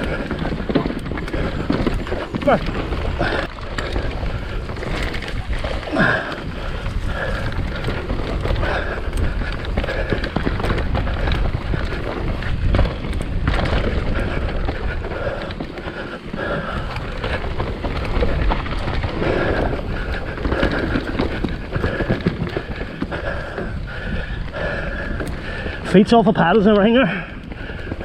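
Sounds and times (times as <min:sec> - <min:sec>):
bike knocks and rattles: 0:00.0 - 0:26.2
bike tyres rumbling over dirt: 0:00.0 - 0:28.0
wind buffeting microphone: 0:00.0 - 0:28.0.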